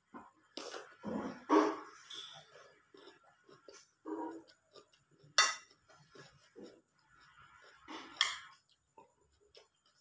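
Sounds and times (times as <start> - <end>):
person chewing: 0.5 - 10.0.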